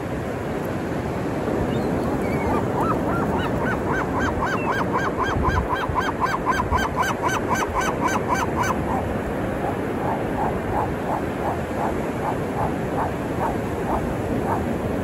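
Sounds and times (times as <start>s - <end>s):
ocean surf: 0.0s - 5.3s, 7.7s - 15.0s
gull calling: 2.3s - 14.7s.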